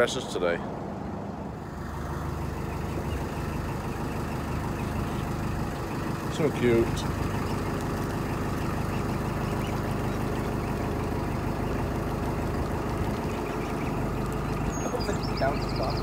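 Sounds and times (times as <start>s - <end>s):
boat diesel engine droning: 1.6s - 16.0s.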